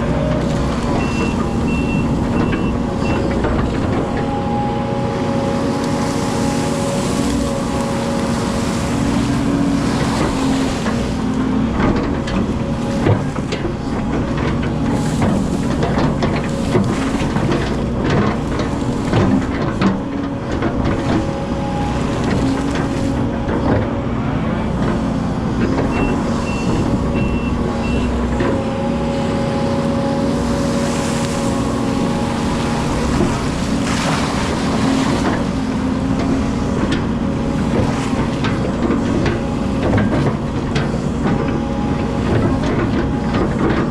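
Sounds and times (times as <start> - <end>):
machine knocks and clatter: 0.0 - 4.6, 7.1 - 24.1, 24.7 - 29.1, 30.4 - 43.9
excavator engine running: 0.0 - 43.9.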